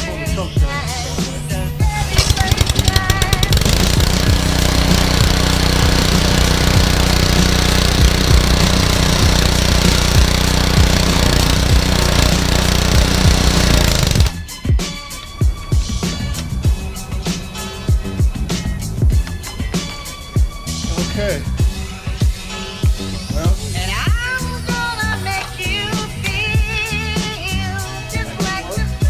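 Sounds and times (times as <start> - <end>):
pressure washer engine running: 0.0 - 28.9.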